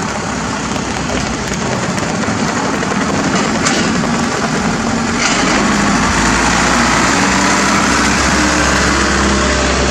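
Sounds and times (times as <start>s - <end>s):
truck diesel engine running: 0.0s - 9.9s.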